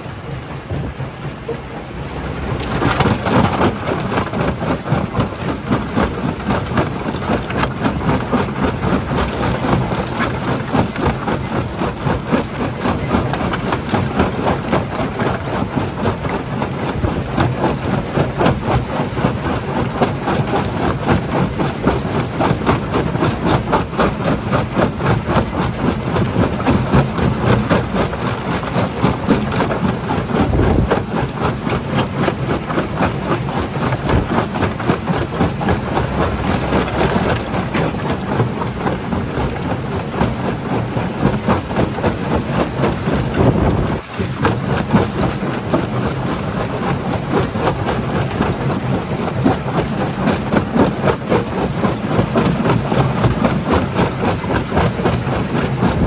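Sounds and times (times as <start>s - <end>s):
stone crusher machine drone: 0.0s - 56.0s.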